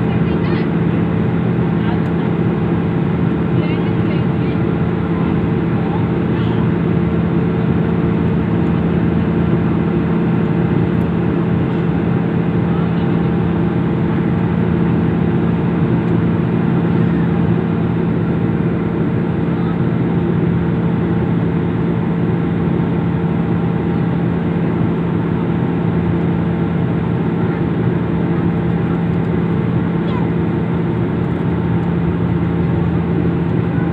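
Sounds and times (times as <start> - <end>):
aeroplane engines droning: 0.0 - 33.9.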